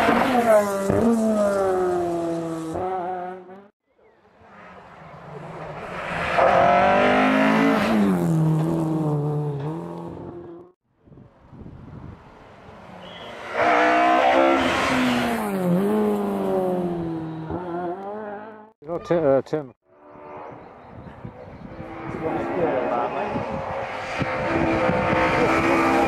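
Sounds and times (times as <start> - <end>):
rally car engines passing: 0.0 - 10.7, 12.2 - 18.7, 20.0 - 26.0.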